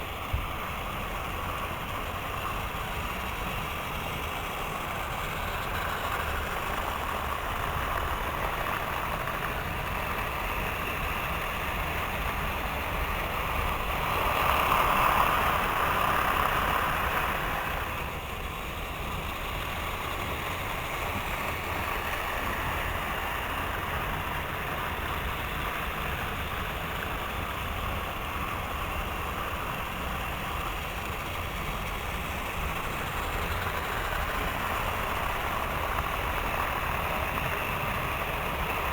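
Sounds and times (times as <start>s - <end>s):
model trains whirring on rails: 0.0s - 38.9s.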